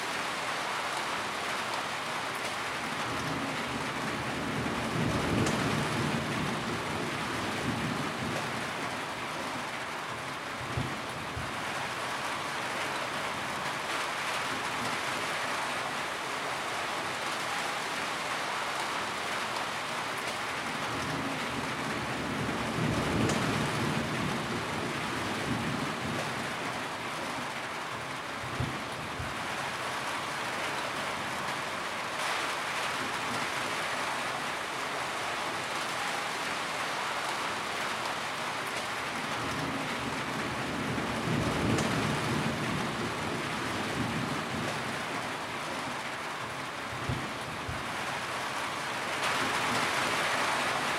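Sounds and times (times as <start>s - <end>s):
rain on a tin roof: 0.0s - 50.9s.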